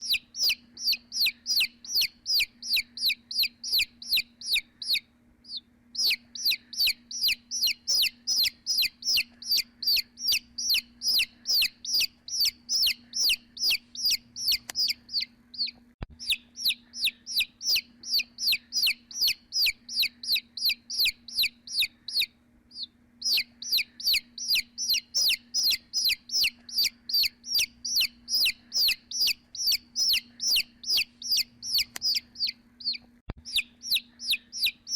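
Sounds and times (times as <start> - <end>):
baby chick peeping: 0.0 - 34.9.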